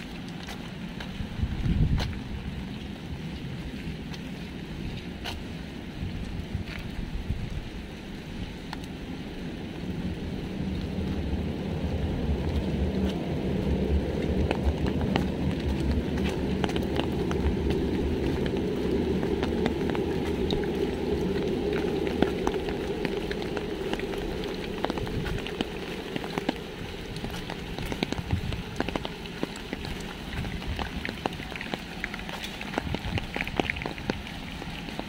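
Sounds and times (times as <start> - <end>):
low rumble: 0.0 - 35.0
rain pattering: 0.0 - 35.0.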